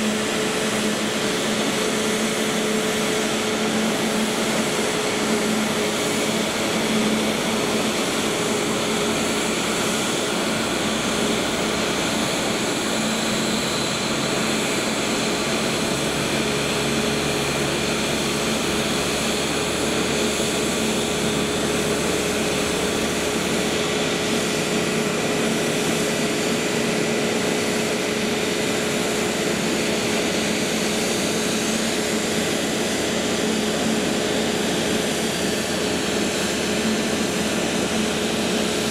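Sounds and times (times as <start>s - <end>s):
jet engine hum: 0.0s - 38.9s.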